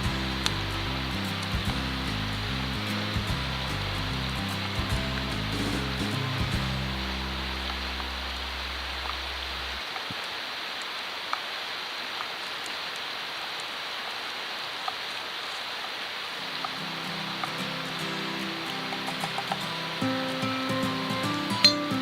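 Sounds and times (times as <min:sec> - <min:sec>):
wood fire hissing and crackling: 0:00.0 - 0:22.0.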